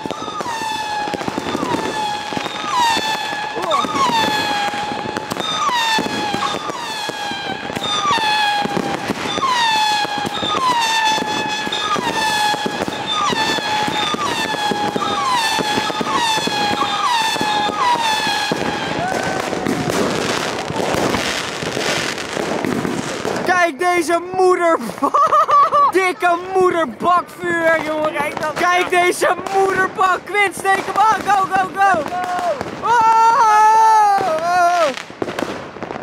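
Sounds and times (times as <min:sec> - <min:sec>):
fireworks crackling: 0:00.0 - 0:36.0
fireworks whistling: 0:00.0 - 0:36.0.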